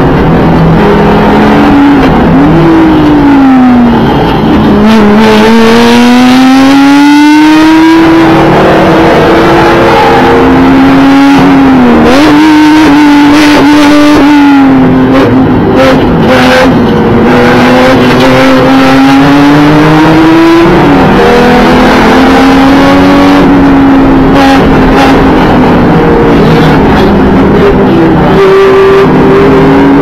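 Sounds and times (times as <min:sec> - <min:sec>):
car engine at racing speed: 0:00.0 - 0:30.0.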